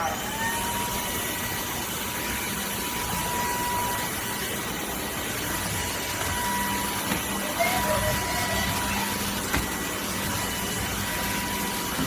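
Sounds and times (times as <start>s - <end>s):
wet-dry vacuum running: 0.0s - 12.0s.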